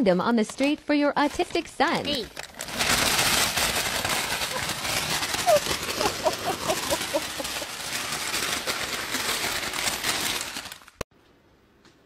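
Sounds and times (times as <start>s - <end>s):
plastic bag crinkling: 0.5s - 11.0s.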